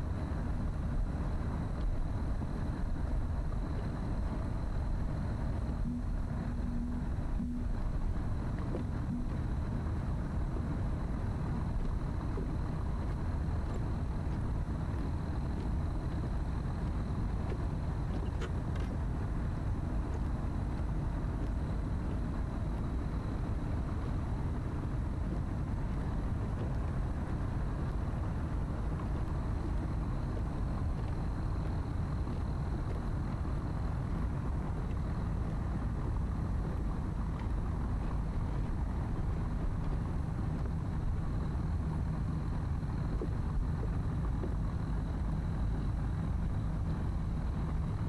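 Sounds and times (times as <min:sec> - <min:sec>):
distant motor traffic rumble: 0:00.0 - 0:48.0
faint ticks: 0:00.0 - 0:48.0.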